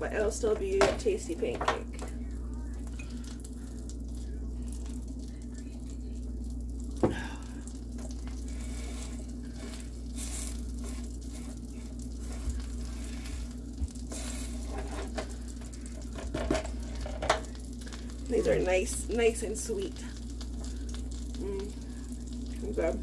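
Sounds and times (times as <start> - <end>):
pancakes sizzling in a pan: 0.0 - 23.0
steady low hum: 0.0 - 23.0.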